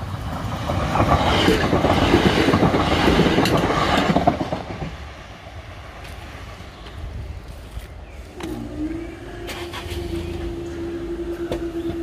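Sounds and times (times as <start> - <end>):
electric train passing: 0.0 - 7.3, 8.2 - 12.0
wheel and rail noise: 0.0 - 12.0.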